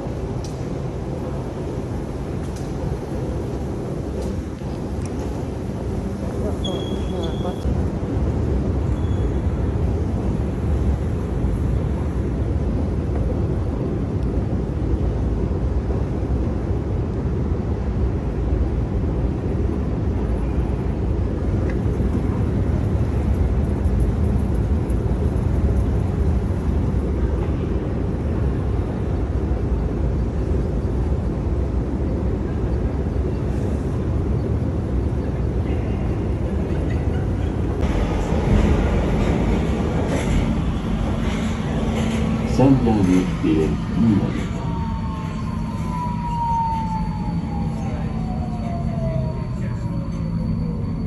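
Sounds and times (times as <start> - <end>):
escalator low rumble: 0.0 - 51.0.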